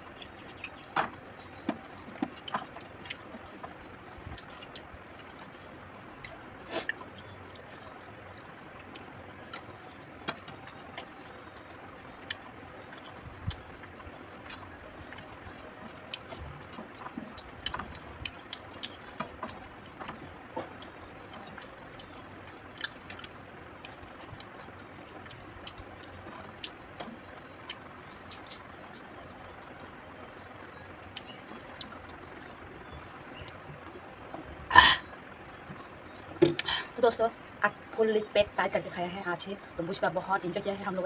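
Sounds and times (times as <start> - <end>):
chewing and lip smacking: 0.0 - 34.3, 35.0 - 37.6.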